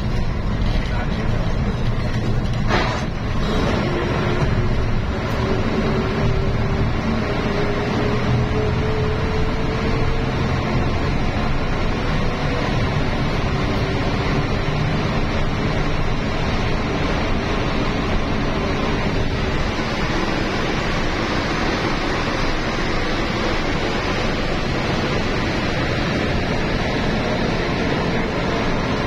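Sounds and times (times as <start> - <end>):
bus cabin rumble: 0.0 - 29.0.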